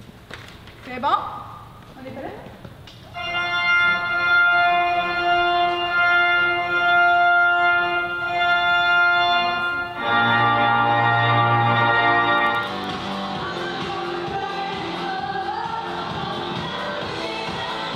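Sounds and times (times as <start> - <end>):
electric organ chords: 3.2 - 17.8.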